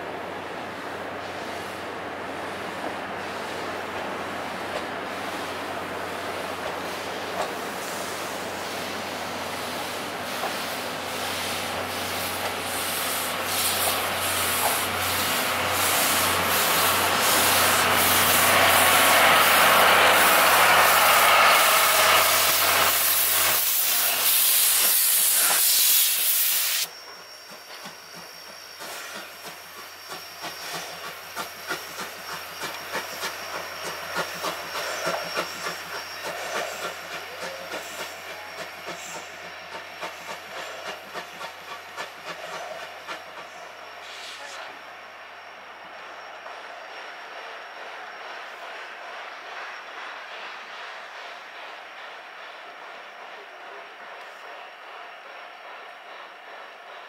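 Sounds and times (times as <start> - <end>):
steam hissing from locomotive: 0.8 - 57.0.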